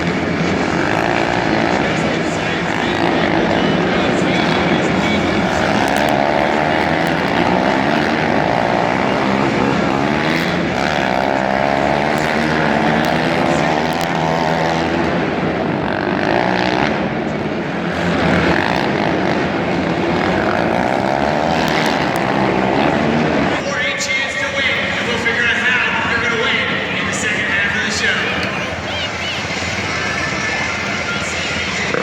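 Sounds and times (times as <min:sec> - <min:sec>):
loud truck engine revving: 0:00.0 - 0:32.0.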